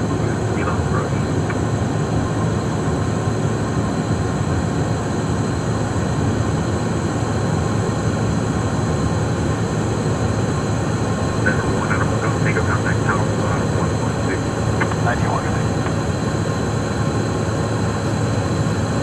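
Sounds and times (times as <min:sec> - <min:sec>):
jet engines droning: 0:00.0 - 0:19.0.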